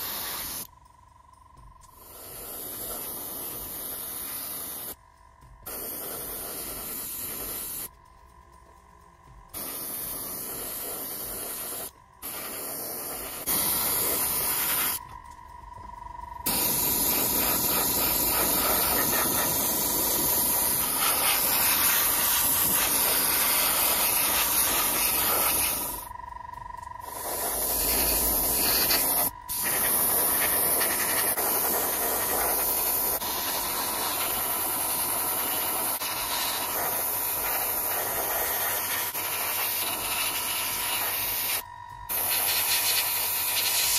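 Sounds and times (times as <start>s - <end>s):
airbrush spraying hiss: 0.0s - 0.7s, 1.6s - 5.0s, 5.6s - 8.0s, 9.5s - 15.1s, 16.4s - 26.1s, 27.0s - 43.9s.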